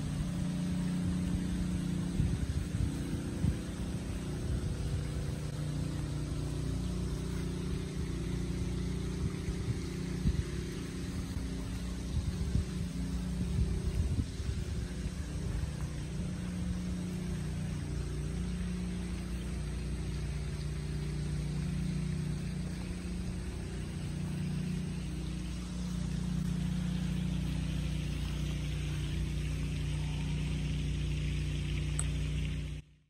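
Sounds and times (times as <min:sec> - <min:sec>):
motor running steadily: 0:00.0 - 0:33.0.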